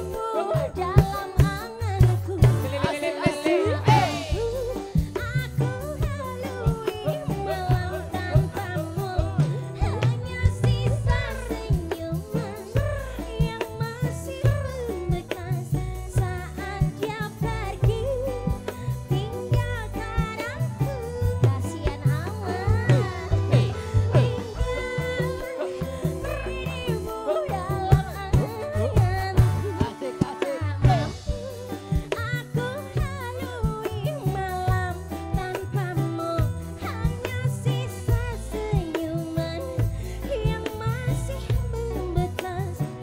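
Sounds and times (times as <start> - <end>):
live band music: 0.0 - 43.0
steady drum beat: 0.0 - 43.0.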